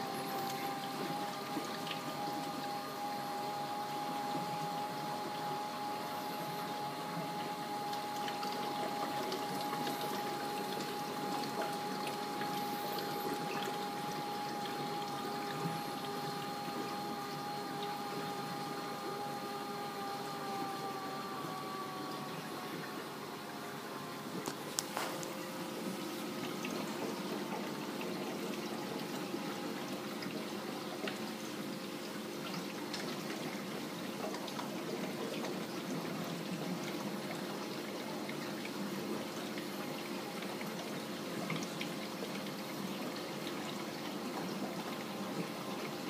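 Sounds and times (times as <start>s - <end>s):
low steady hum: 0.0s - 46.0s
water running and trickling: 0.0s - 46.0s.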